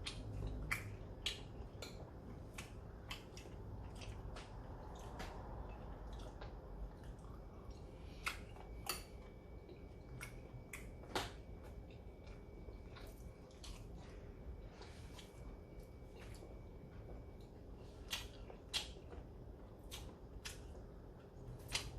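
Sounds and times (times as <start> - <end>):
chewing: 0.0 - 21.9.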